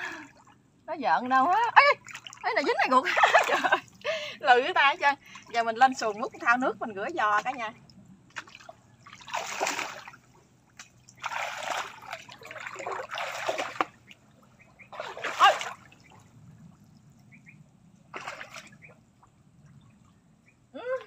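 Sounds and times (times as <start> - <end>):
muddy water splashing: 0.0 - 21.0.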